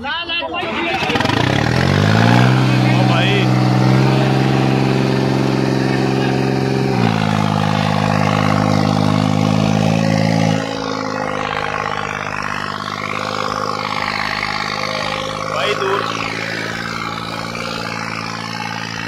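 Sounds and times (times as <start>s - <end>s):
tractor engine at high revs: 0.5s - 19.0s.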